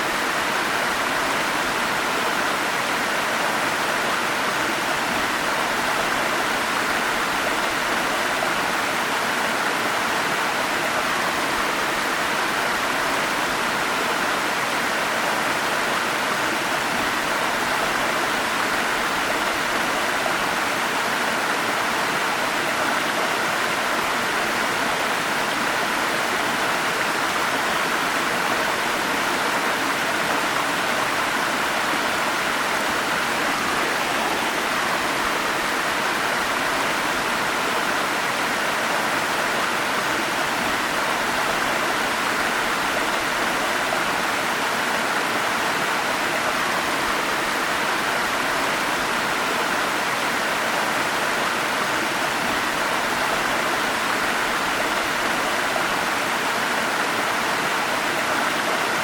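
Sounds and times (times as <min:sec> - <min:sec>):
stream water rushing and splashing: 0:00.0 - 0:59.0.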